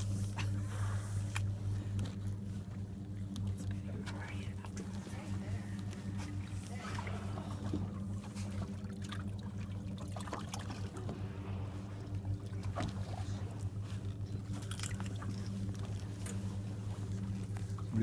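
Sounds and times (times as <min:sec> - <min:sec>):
boat engine humming: 0:00.0 - 0:18.0
water splashing and trickling: 0:02.6 - 0:18.0.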